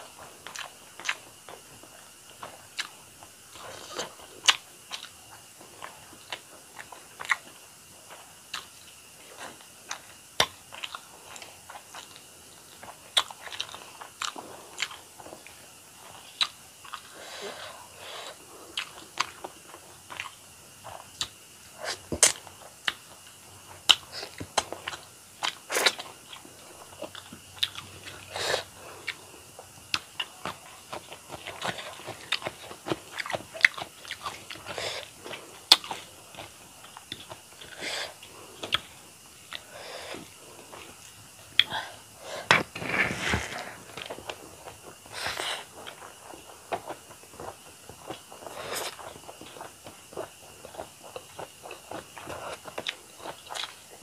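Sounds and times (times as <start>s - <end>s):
close chewing with wet mouth clicks: 0.4s - 8.8s, 9.6s - 17.1s, 22.2s - 41.8s, 43.9s - 54.0s.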